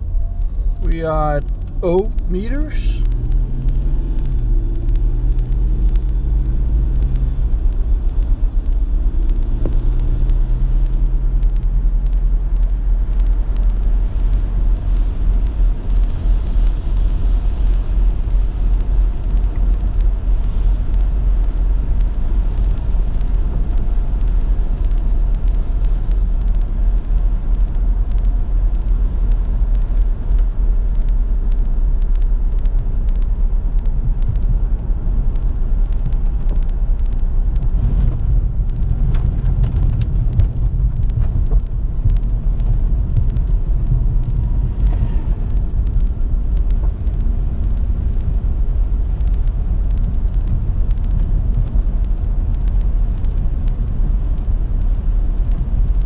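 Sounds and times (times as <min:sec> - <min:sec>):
low engine hum: 0:00.0 - 0:56.0
road noise inside car: 0:00.0 - 0:56.0.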